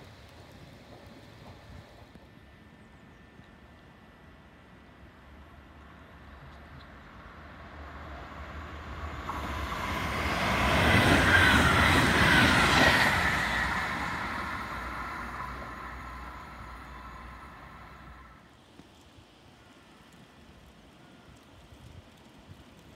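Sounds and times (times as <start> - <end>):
train passing: 0.0 - 22.9.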